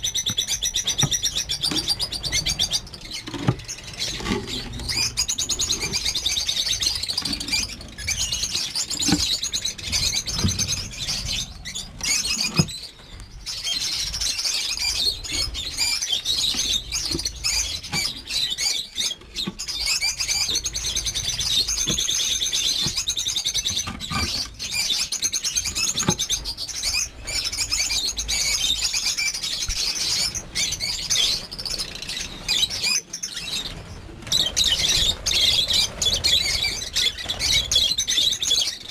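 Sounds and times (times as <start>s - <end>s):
lovebirds chirping: 0.0s - 38.9s
wings fluttering and clicks: 0.0s - 38.9s.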